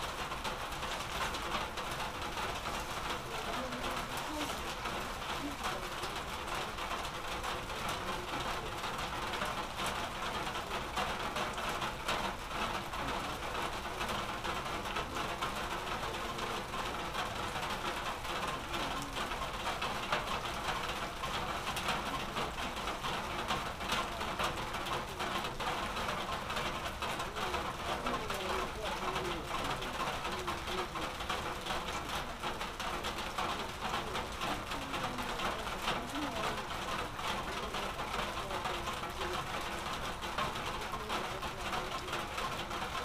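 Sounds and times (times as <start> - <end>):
steady rain patter: 0.0 - 43.0.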